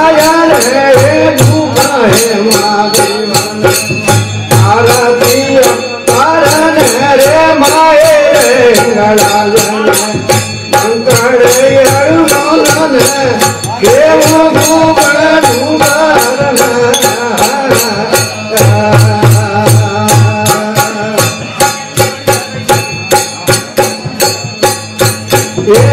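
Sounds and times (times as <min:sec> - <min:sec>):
man singing devotional song: 0:00.0 - 0:25.9.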